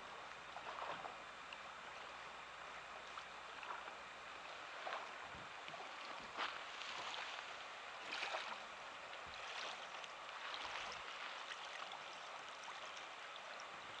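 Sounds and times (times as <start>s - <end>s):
small waves lapping at shore: 0.0s - 14.0s.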